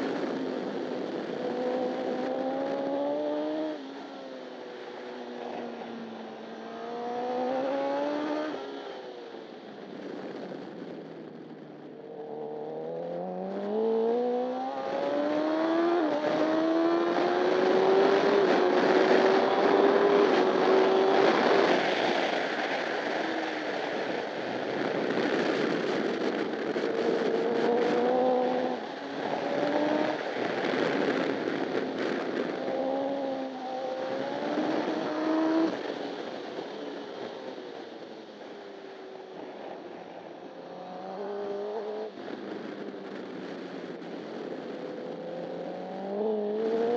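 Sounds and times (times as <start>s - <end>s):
heavy rush of wind: 0.0s - 46.9s
motorcycle engine accelerating: 0.0s - 46.9s.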